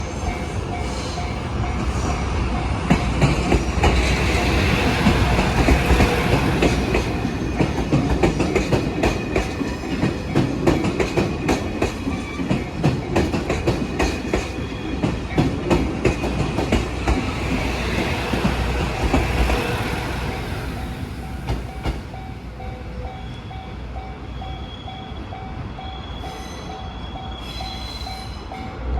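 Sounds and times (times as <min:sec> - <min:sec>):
train engine rumble: 0:00.0 - 0:28.9.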